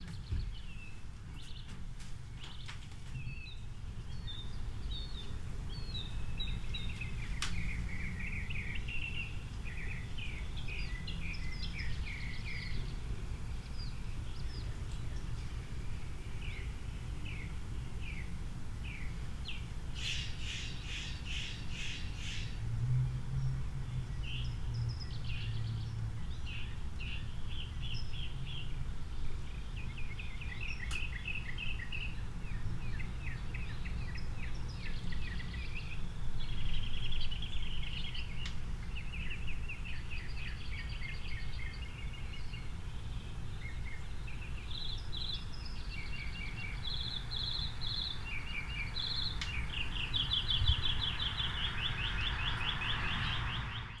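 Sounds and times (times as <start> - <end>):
birds chirping: 2.4 - 54.0
distant car traffic rumble: 4.0 - 54.0.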